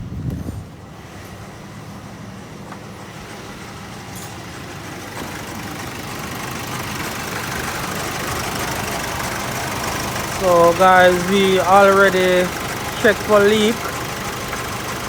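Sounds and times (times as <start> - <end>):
air conditioning rushing: 0.0 - 15.0
car engine idling: 0.0 - 15.0.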